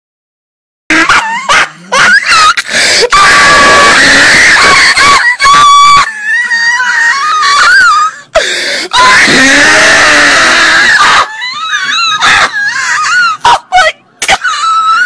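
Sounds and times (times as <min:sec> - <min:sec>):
distorted wailing cries: 0:01.0 - 0:15.0.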